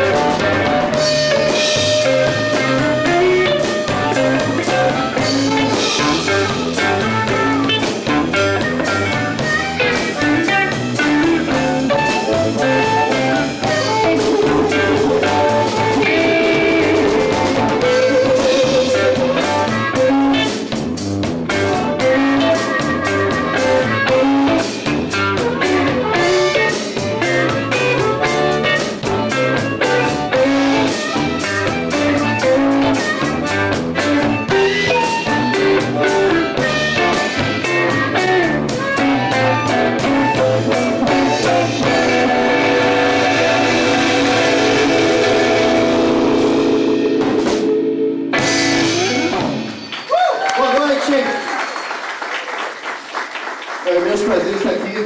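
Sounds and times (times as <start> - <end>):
blues harmonica notes: 0.0 - 50.0
drum kit beat: 0.0 - 50.2
electric guitar: 0.0 - 50.6.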